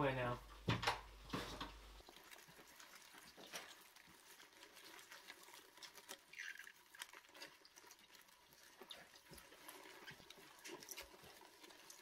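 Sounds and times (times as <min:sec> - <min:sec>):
cockroaches scratching on leaves: 0:02.0 - 0:12.0.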